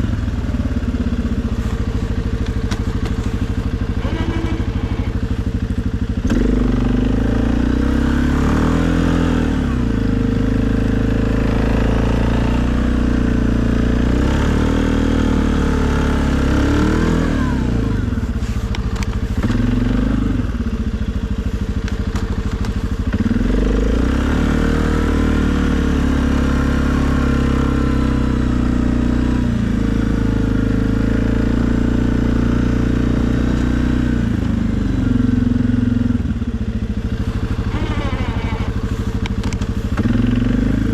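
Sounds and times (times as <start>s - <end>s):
atv engine revving under load: 0.0s - 40.9s.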